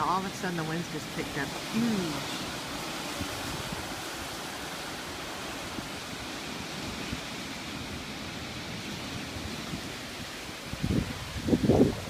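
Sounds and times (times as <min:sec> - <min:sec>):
wind blowing through palm fronds: 0:00.0 - 0:12.0.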